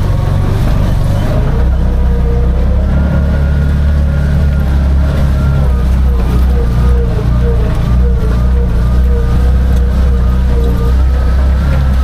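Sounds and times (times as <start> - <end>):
auto rickshaw engine rumbling: 0.0 - 12.0.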